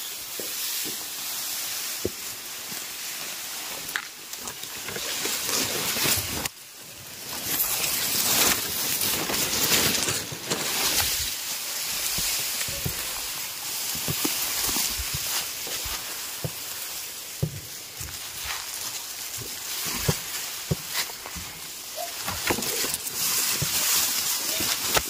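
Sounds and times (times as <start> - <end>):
dry grass rustling: 0.0 - 25.0.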